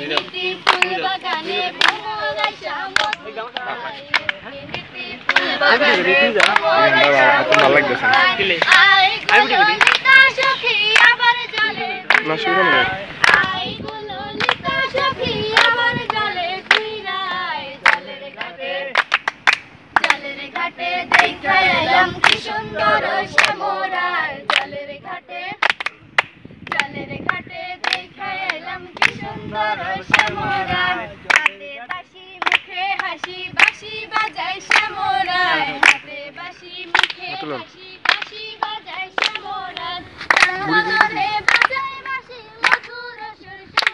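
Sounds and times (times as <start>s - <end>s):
hand-clapping: 0.0s - 12.4s, 13.2s - 17.0s, 17.8s - 21.4s, 22.2s - 22.5s, 23.3s - 23.6s, 24.4s - 24.7s, 25.5s - 29.3s, 30.1s - 30.5s, 31.2s - 43.9s
women singing together: 0.0s - 43.9s.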